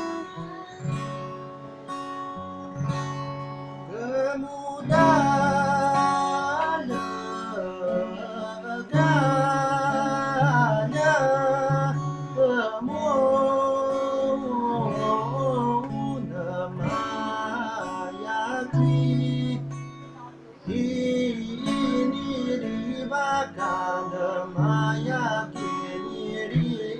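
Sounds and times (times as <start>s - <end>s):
guitar accompaniment: 0.0s - 26.9s
person singing folk song: 0.0s - 26.9s.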